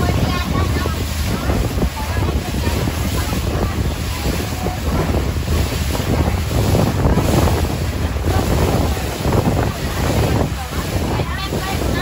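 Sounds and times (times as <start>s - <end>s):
water rushing past boat hull: 0.0s - 12.0s
wind buffeting microphone: 0.0s - 12.0s.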